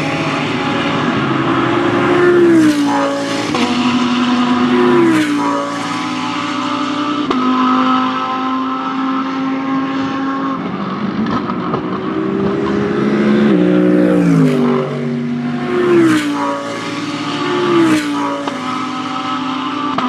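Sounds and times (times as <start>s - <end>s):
race car engine: 0.0s - 20.0s.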